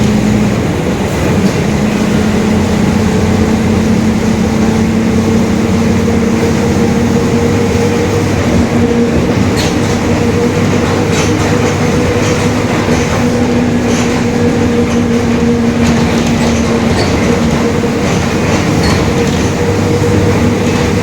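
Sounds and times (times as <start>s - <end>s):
bus drivetrain drone: 0.0s - 21.0s
road rumble: 0.0s - 21.0s.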